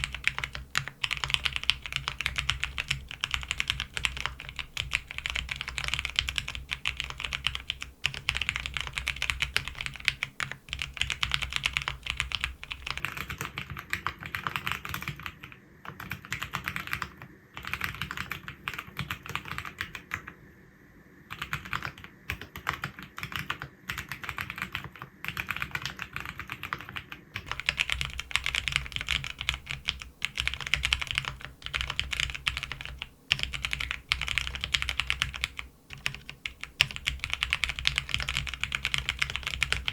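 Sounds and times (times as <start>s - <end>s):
mechanical keyboard typing: 0.0s - 20.2s, 21.3s - 39.9s.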